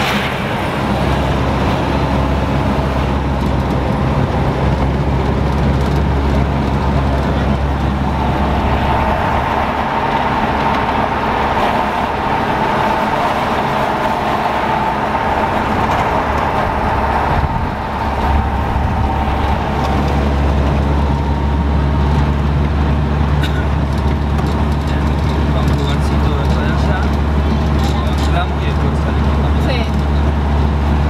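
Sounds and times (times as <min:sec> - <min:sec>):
road rumble: 0:00.0 - 0:31.0
vehicle engine drone: 0:00.0 - 0:31.0.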